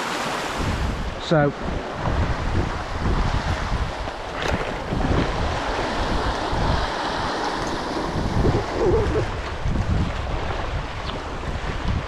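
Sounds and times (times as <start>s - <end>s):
waves breaking over rocks: 0.0s - 12.0s
wind buffeting microphone: 0.5s - 12.0s.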